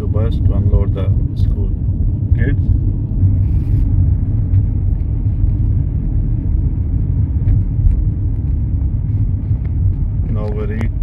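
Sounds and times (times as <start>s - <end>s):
car engine rumble: 0.0s - 11.0s
tyre road noise: 0.0s - 11.0s.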